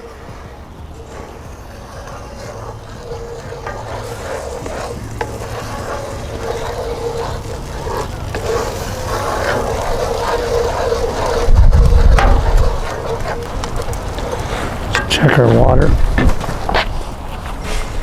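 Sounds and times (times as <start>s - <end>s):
sauce simmering: 0.0s - 15.0s
utensil scraping a pan: 0.0s - 18.0s.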